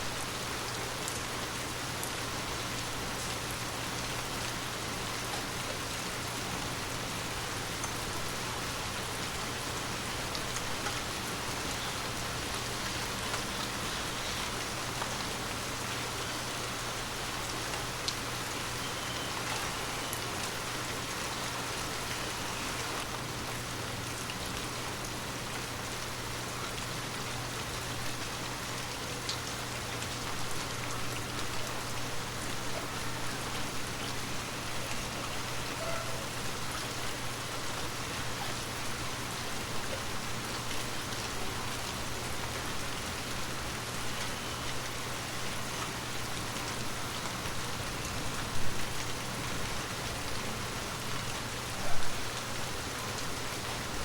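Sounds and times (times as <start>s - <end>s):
rain-like hiss: 0.0s - 54.0s.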